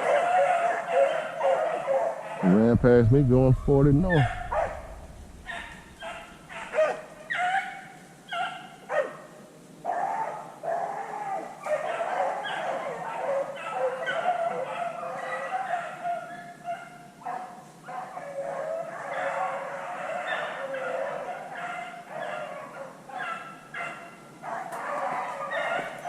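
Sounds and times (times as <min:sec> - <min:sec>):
pack of dogs baying: 0:00.0 - 0:26.0.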